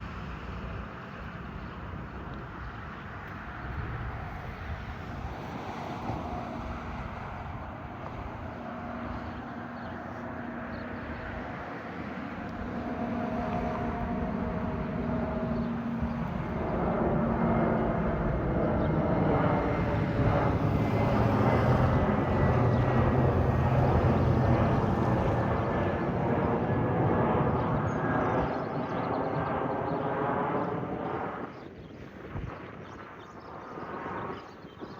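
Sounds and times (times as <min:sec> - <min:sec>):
jet engines on approach: 0:00.0 - 0:34.9.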